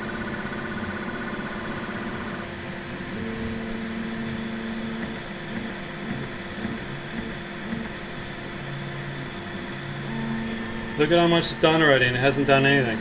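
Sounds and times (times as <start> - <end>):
fan hum: 0.0 - 13.0
printer stepper motors singing: 0.0 - 13.0.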